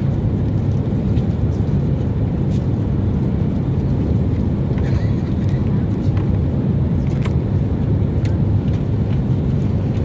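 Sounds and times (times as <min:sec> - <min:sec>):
loud low vehicle interior rumble: 0:00.0 - 0:10.0.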